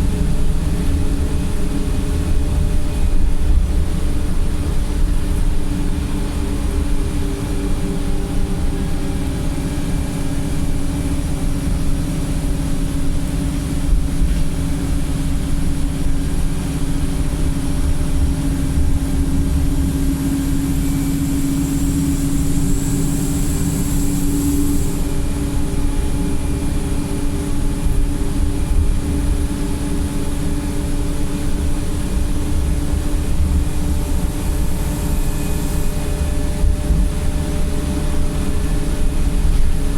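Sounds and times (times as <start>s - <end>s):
diesel engine hum: 0.0s - 39.9s
road rumble: 0.0s - 39.9s.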